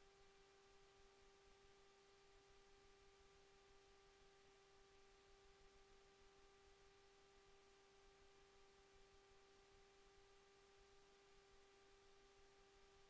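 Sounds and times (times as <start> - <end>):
faint steady tone: 0.0 - 13.0.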